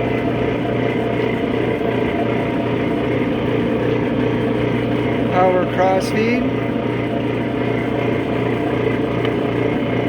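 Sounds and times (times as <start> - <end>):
metal lathe humming: 0.0 - 10.0.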